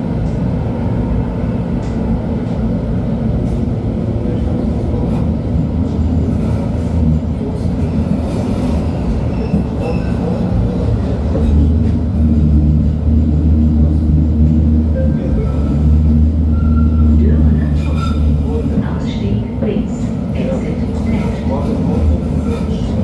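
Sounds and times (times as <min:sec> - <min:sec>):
light-rail car wheels rumbling: 0:00.0 - 0:23.0.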